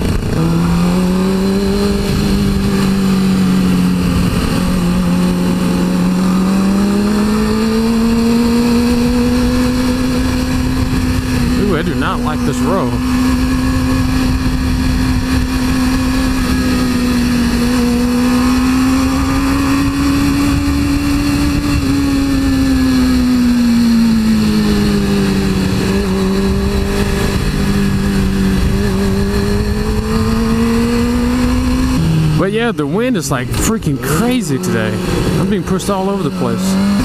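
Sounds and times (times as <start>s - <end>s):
wind rushing over microphone: 0.0s - 34.0s
motorcycle engine cruising: 0.0s - 37.0s.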